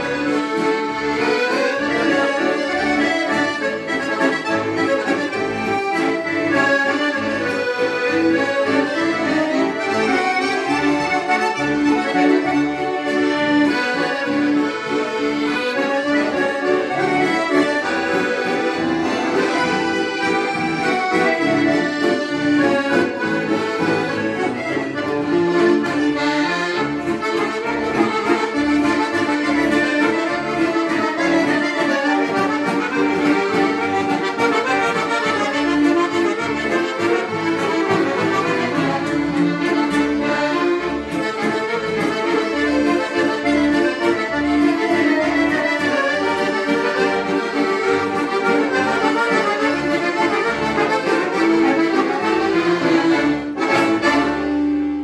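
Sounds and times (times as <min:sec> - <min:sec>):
accordions playing a tune: 0:00.0 - 0:55.0.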